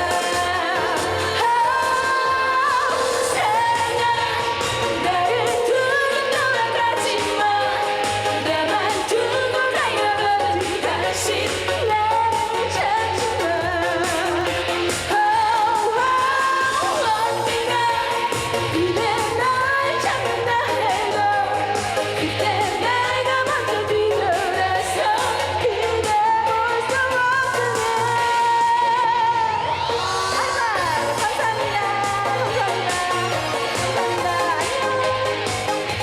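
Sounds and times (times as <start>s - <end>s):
pop backing track: 0.0s - 36.0s
woman singing with vibrato: 0.0s - 36.0s.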